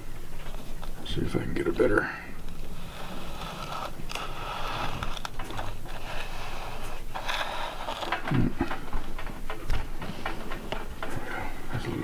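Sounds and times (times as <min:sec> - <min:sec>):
scraping and rustling handling: 0:00.0 - 0:12.0.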